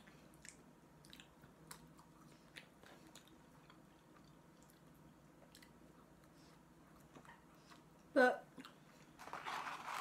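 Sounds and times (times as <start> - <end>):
faint chewing with mouth clicks: 0.0 - 9.2.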